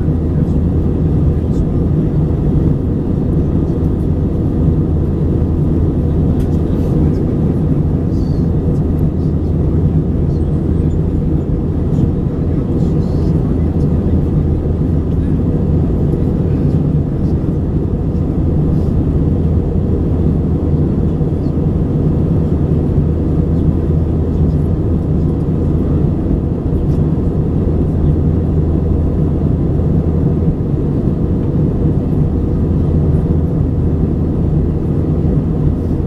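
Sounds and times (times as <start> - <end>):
aircraft cabin engine rumble: 0.0 - 36.0.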